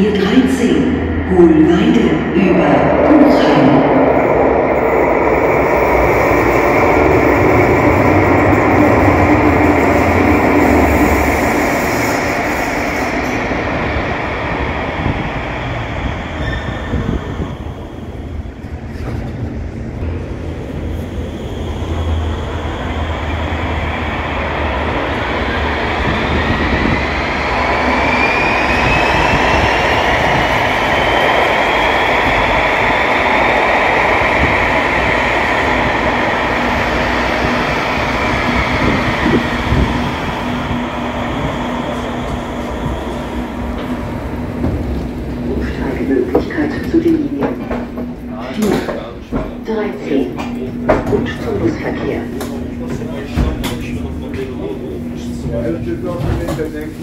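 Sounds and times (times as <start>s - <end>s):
light-rail train running: 0.0s - 57.0s.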